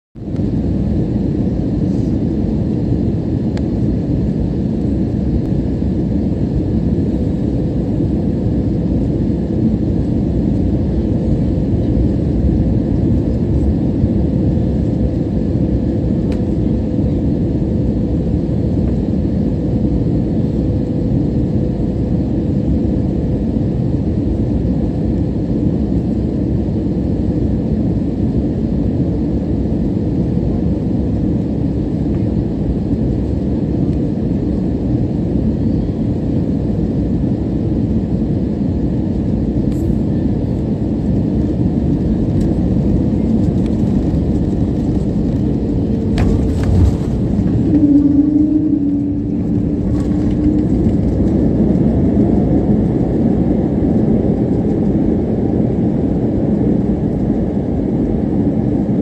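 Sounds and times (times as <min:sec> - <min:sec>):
airliner cabin engine rumble: 0:00.2 - 0:59.0.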